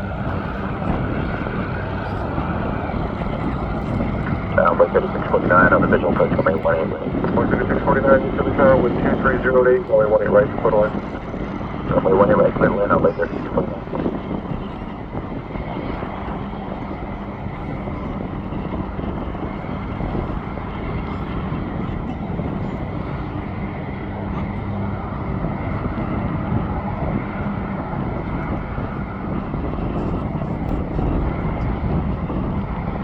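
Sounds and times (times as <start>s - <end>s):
jet airliner engine rumble: 0.0s - 33.0s.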